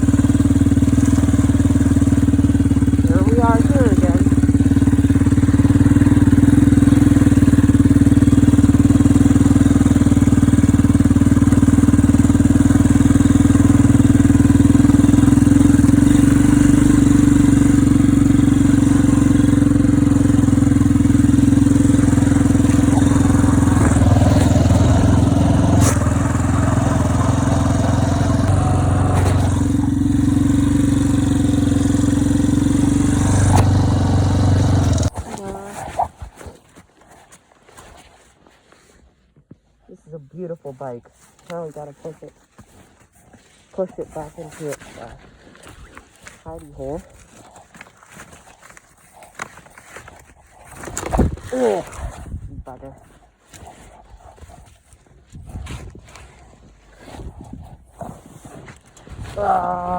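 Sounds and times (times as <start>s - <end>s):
quad bike engine running: 0.0s - 36.1s, 43.8s - 45.2s, 46.4s - 49.5s, 50.1s - 53.0s, 53.6s - 59.9s.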